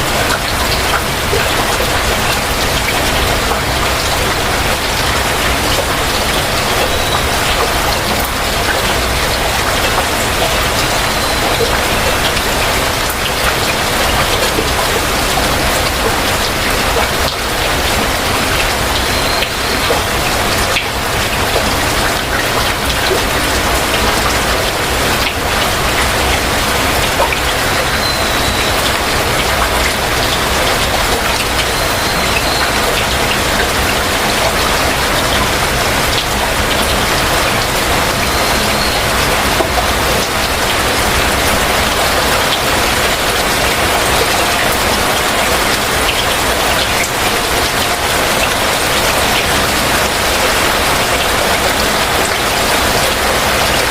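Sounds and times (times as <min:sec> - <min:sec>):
heavy rain splashing: 0:00.0 - 0:53.9.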